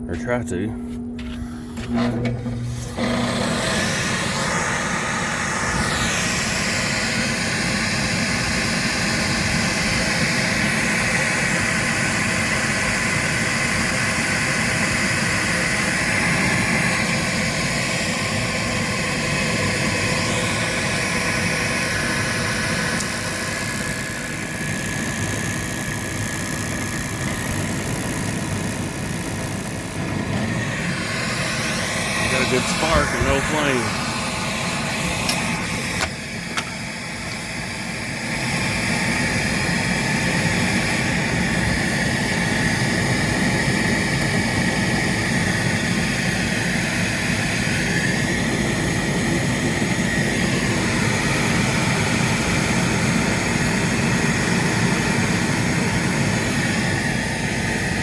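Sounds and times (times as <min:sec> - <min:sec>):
inducer fan running: 0:00.0 - 0:58.0.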